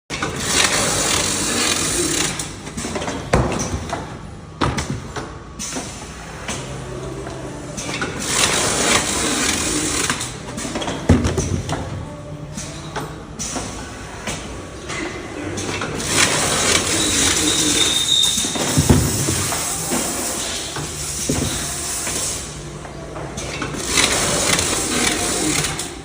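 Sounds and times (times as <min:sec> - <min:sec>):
machine hissing and rattling: 0:00.1 - 0:04.0, 0:04.8 - 0:06.9, 0:07.8 - 0:11.8, 0:12.5 - 0:22.8, 0:23.4 - 0:26.0.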